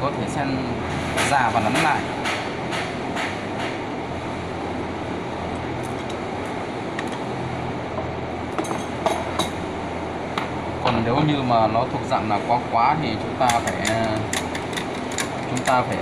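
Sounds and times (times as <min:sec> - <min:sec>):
machinery hum and rumble: 0:00.0 - 0:16.0.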